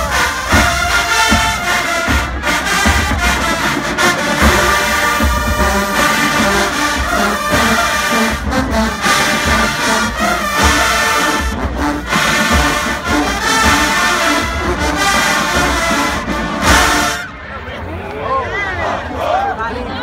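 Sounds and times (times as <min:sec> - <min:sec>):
low drum beats: 0:00.0 - 0:17.3
brass playing a tune: 0:00.0 - 0:17.4.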